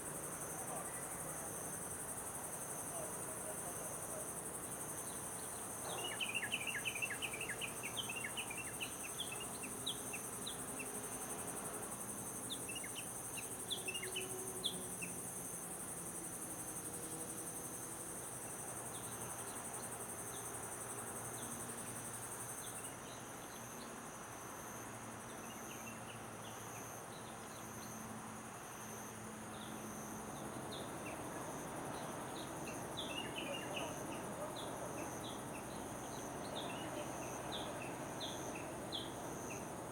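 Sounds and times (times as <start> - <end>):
insects trilling: 0.0 - 24.0, 24.6 - 39.9.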